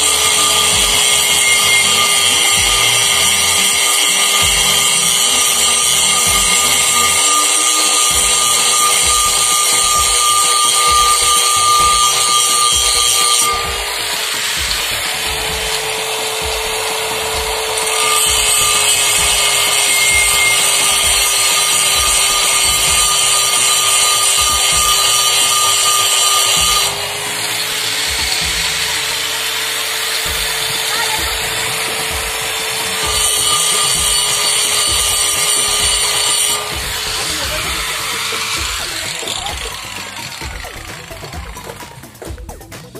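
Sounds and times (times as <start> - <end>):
angle grinder grinding metal: 0.0 - 42.9.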